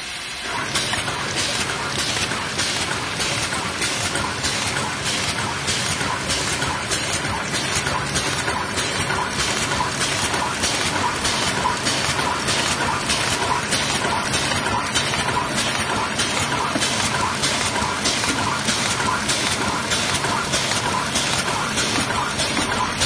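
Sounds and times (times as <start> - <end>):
machine hiss: 0.0 - 23.0
packing machine cycling: 0.4 - 23.0.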